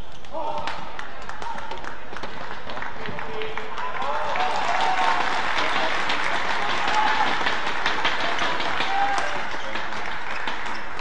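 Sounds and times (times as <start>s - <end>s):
crowd cheering and clapping: 0.6s - 11.0s.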